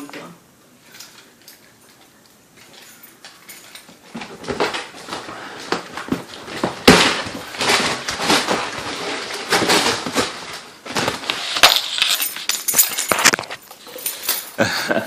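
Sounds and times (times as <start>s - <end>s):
packaging crackling and rustling: 1.2s - 13.8s.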